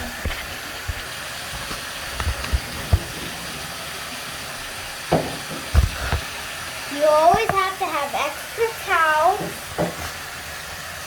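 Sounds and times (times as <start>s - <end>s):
tap water running into bathtub: 0.0s - 11.0s.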